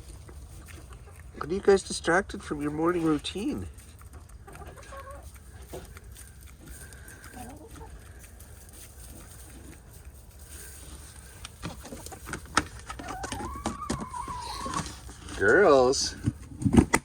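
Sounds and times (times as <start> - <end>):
hens clucking softly: 0.0 - 1.7, 2.4 - 15.6.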